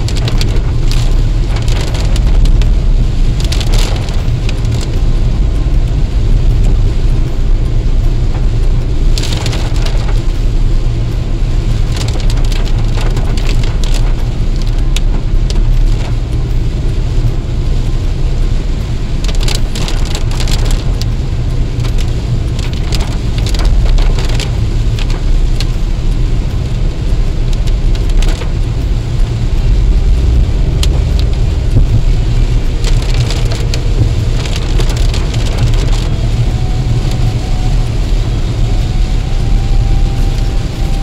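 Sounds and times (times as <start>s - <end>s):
car tyres and engine rumbling: 0.0s - 41.0s
raindrops tapping on car: 0.0s - 41.0s.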